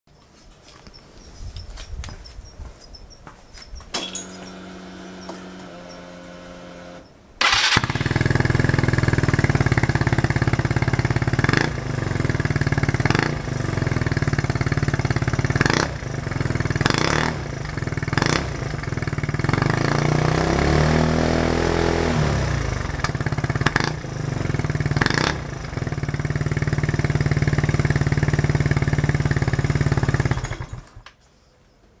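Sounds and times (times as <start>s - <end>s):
scooter engine idling and revving: 4.2s - 31.0s.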